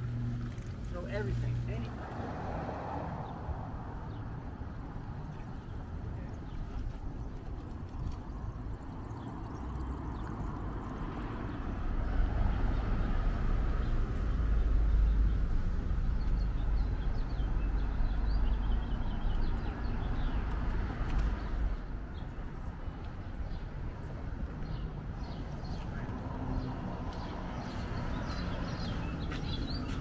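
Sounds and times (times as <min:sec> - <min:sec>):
low traffic rumble: 0:00.0 - 0:30.0
small birds chirping: 0:04.0 - 0:13.2, 0:14.6 - 0:30.0.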